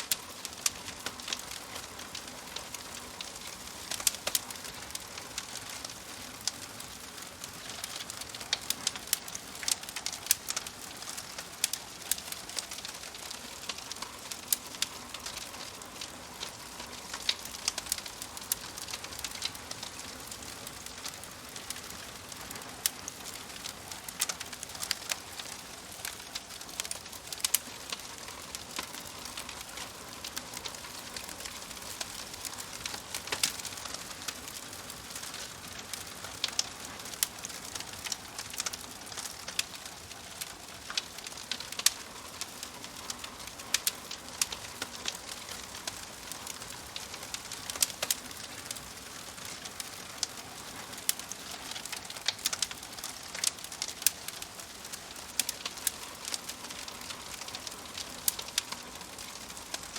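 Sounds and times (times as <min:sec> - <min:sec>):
wood fire crackling and popping: 0:00.0 - 0:59.9
fire hissing: 0:00.1 - 0:59.9.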